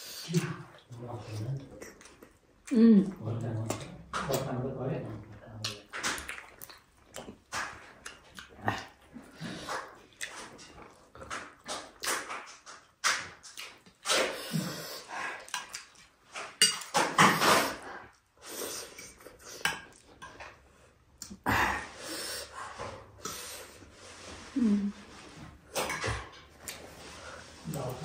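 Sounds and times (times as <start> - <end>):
chewing and slurping food: 0.0 - 4.5, 5.1 - 28.0.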